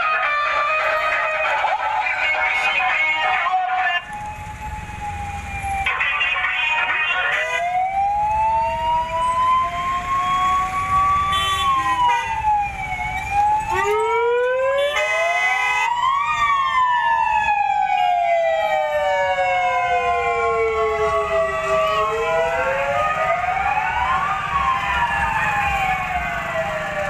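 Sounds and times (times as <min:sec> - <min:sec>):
vehicle sirens wailing: 0:00.0 - 0:27.0
fast-pulsing siren bursts: 0:04.3 - 0:27.0.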